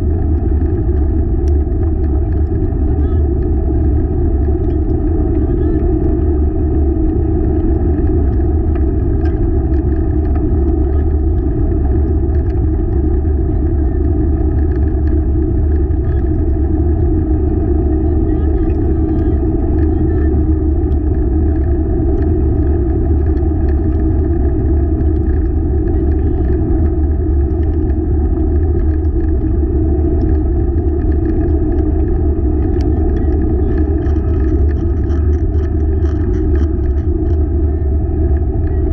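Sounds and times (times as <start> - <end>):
rig wheels rumbling on trail: 0.0 - 38.9
wind on microphone: 0.0 - 38.9.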